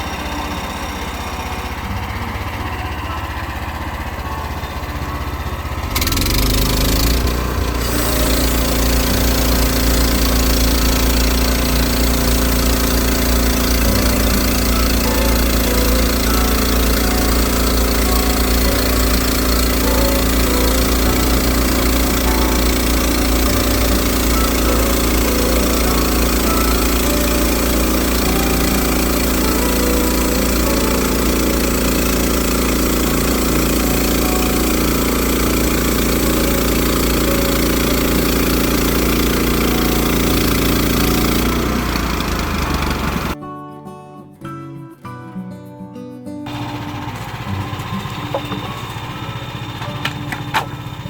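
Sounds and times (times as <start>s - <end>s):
engine running: 0.0s - 43.4s, 46.5s - 51.0s.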